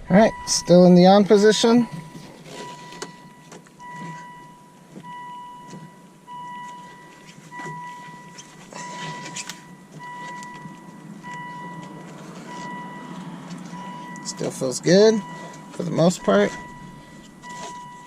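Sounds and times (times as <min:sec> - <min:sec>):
car warning chime beeping: 0:00.0 - 0:18.0.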